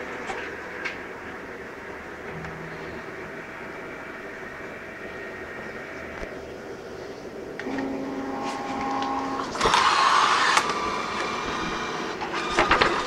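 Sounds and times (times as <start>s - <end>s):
printer motor whine: 0.0s - 13.0s
rough printer whirr: 0.0s - 13.0s.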